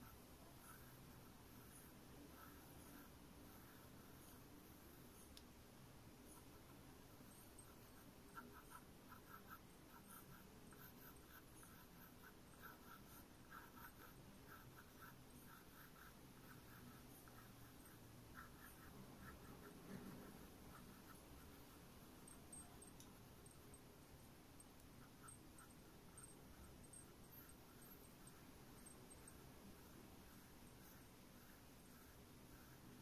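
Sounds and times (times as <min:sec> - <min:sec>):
pencil scratching on paper: 0:00.0 - 0:05.4, 0:06.1 - 0:33.0.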